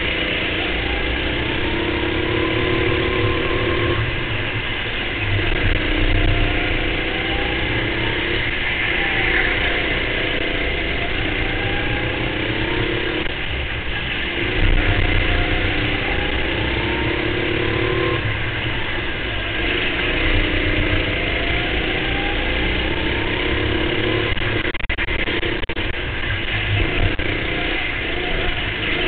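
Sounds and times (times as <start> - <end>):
go-kart engine racing: 0.0 - 29.0
steady low rumble: 0.0 - 29.0.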